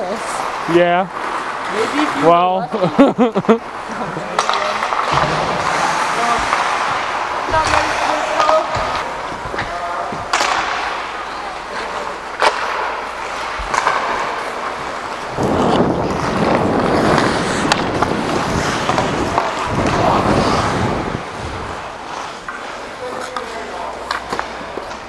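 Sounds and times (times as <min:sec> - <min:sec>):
ice skate blades scraping: 0:03.6 - 0:25.0.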